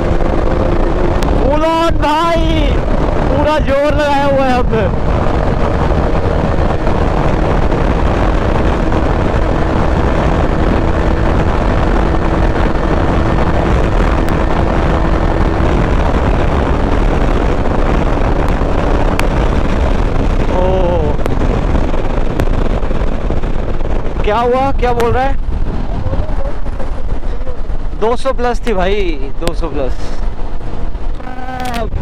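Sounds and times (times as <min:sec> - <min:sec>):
motorcycle engine at full throttle: 0:00.0 - 0:32.0
wind rush: 0:00.0 - 0:32.0.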